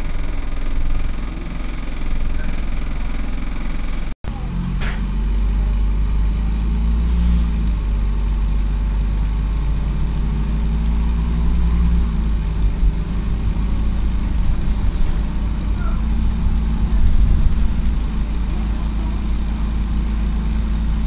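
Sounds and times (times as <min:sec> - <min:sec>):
bus diesel engine: 0:00.0 - 0:21.0
road rumble: 0:00.0 - 0:21.0.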